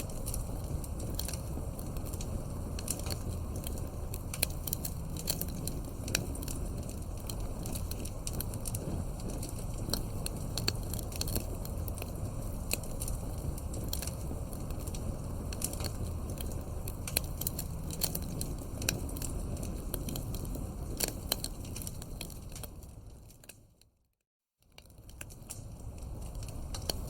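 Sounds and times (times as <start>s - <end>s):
burning logs popping: 0.0s - 23.9s, 24.7s - 27.0s
low rumble of flames: 0.0s - 24.0s, 24.7s - 27.0s.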